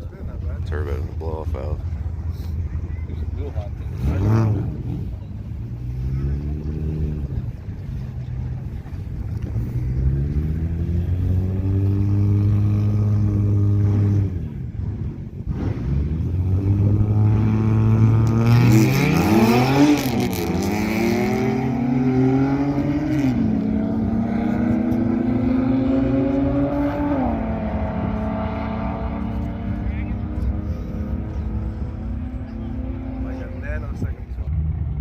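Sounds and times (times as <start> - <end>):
car engine at full throttle: 0.0 - 35.0.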